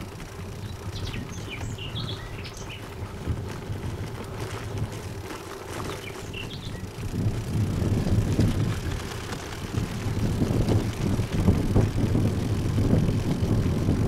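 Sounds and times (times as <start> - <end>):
wind and road rumble: 0.0 - 14.0.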